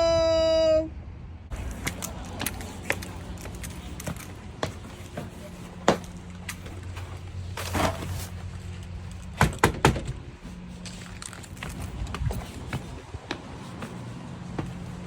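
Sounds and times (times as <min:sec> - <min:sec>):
car engine humming: 0:01.5 - 0:15.0.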